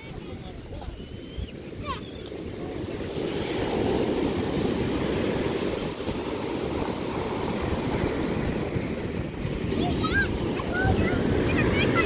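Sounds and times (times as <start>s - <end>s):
ocean surf washing in: 0.0s - 12.0s
wind on microphone: 0.0s - 12.0s.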